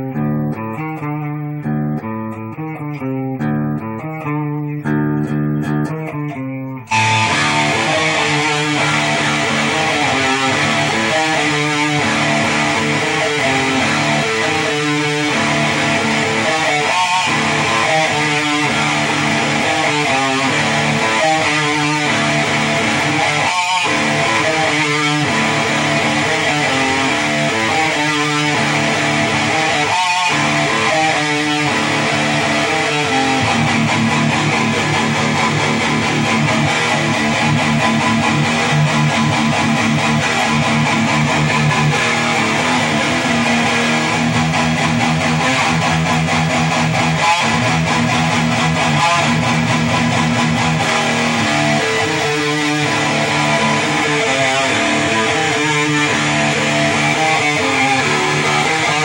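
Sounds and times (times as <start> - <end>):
electric guitar playing heavy riffs: 0.0 - 59.0.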